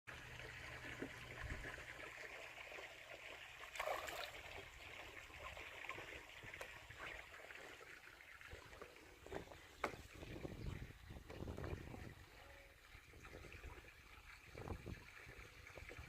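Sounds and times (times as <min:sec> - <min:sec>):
trickling water: 0:00.1 - 0:16.0.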